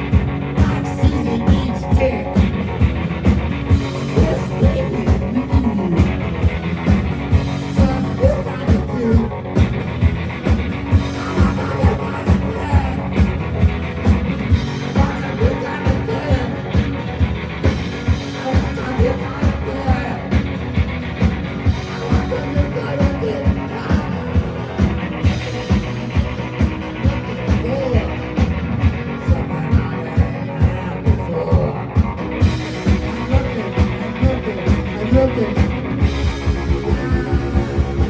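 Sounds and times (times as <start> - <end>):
drum beat: 0.0 - 29.9, 31.6 - 38.0
electric guitar: 0.0 - 38.0.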